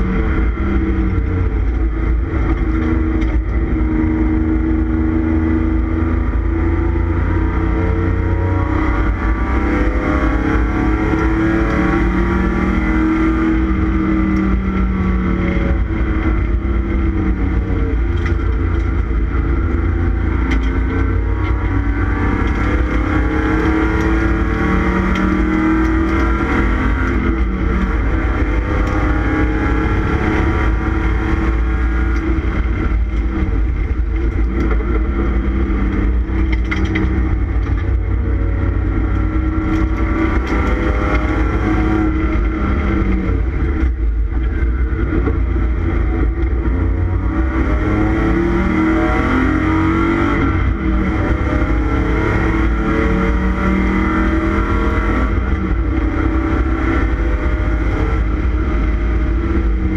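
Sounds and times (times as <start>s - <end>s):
race car engine revving: 0.0s - 59.9s
road and wind rumble: 0.0s - 59.9s.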